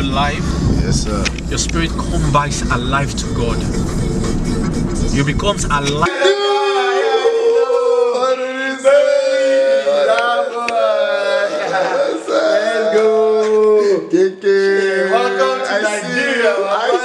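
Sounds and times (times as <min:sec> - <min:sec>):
man singing long notes: 0:03.2 - 0:17.0.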